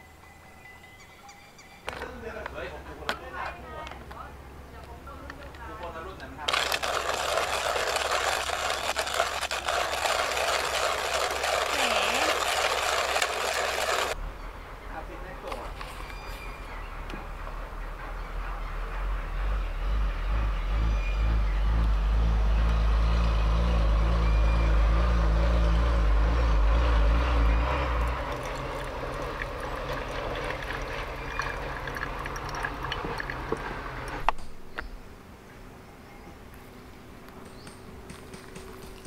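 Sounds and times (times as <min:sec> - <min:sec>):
vehicle engine rumbling: 0:04.1 - 0:39.0.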